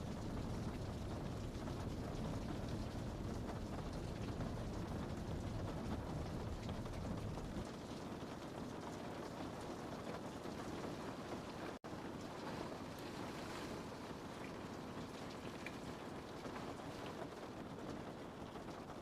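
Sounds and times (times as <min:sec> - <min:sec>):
rain pattering on a window: 0:00.0 - 0:19.0.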